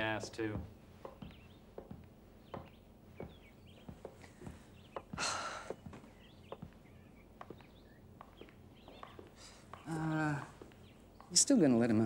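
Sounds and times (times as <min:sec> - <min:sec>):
quiet footsteps: 0:00.0 - 0:12.0.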